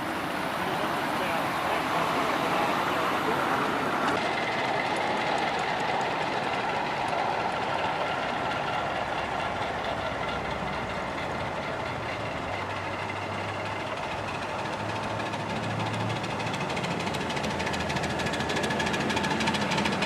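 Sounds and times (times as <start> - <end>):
miniature train rolling on track: 0.0 - 20.0.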